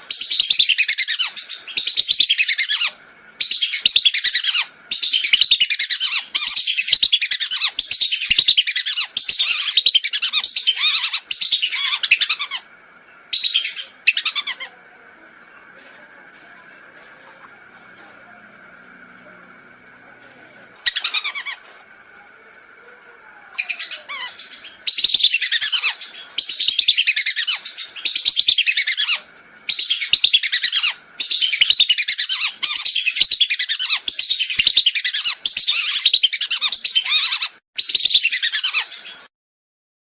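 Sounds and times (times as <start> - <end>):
faint steady tone: 0.0 - 36.0.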